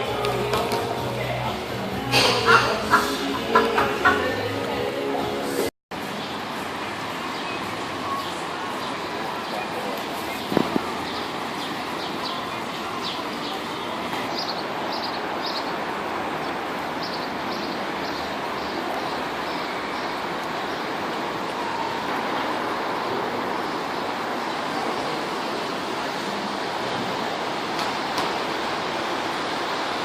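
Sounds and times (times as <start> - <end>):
rushing outdoor noise: 0.0 - 30.0.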